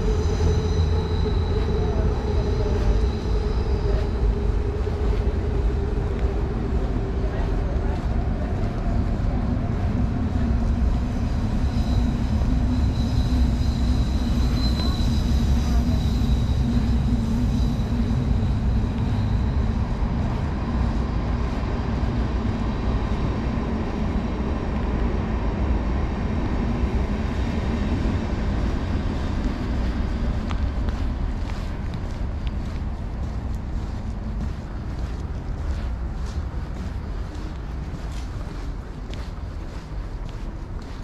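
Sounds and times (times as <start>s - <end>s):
high whine: 0.0s - 41.0s
train rumbling past: 0.0s - 41.0s.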